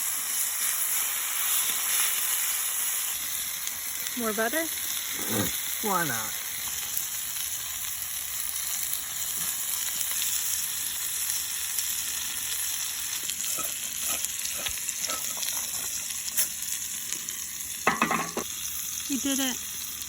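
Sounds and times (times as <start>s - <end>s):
steak sizzling in a pan: 0.0s - 20.0s.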